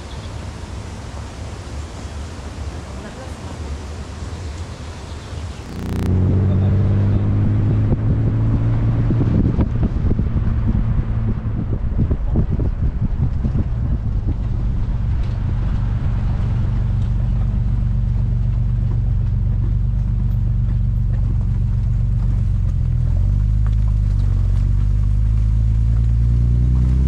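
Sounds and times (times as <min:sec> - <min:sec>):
road and wind noise: 0:00.0 - 0:27.0
sports car engine cruising: 0:04.3 - 0:27.0.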